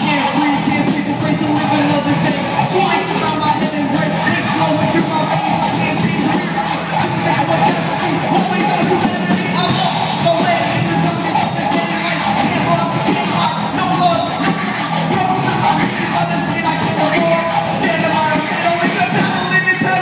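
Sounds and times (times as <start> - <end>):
drums: 0.0 - 20.0
electric guitars: 0.0 - 20.0
person singing: 0.0 - 20.0.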